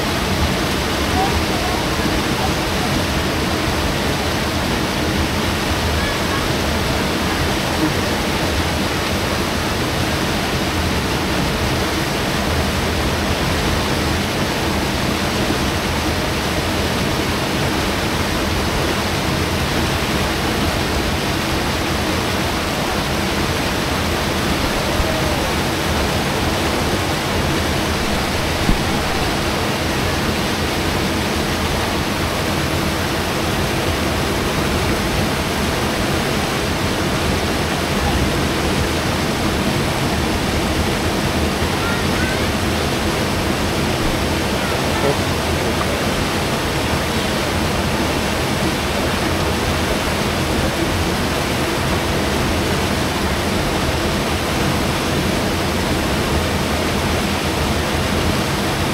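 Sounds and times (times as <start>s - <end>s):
river rapids rushing over rocks: 0.0s - 58.9s.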